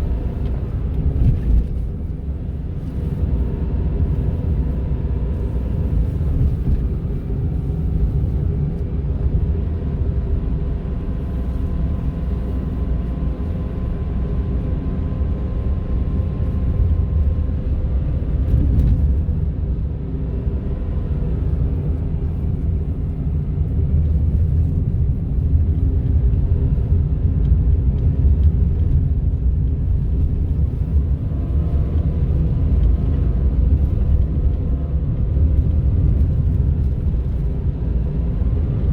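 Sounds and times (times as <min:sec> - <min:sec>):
road and engine rumble: 0:00.0 - 0:38.9.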